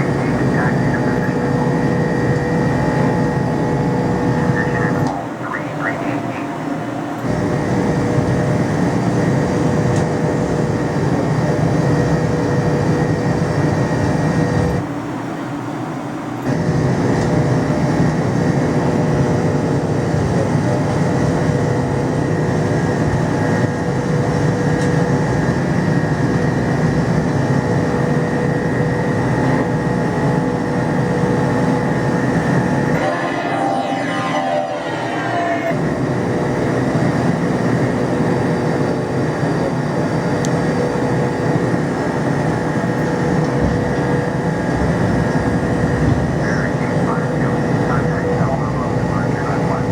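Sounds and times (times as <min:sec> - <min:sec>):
jet engine whining tones: 0:00.0 - 0:49.9
jet engines rumbling: 0:00.0 - 0:49.9.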